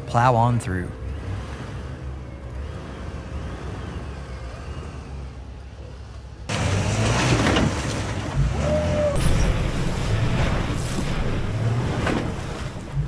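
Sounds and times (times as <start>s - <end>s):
off-road truck engines running: 0.0s - 13.0s.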